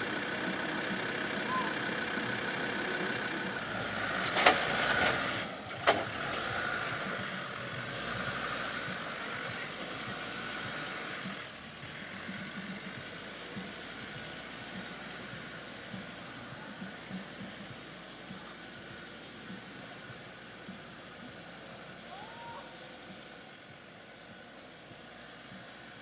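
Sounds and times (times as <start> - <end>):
vehicle engine at low revs: 0.0 - 26.0.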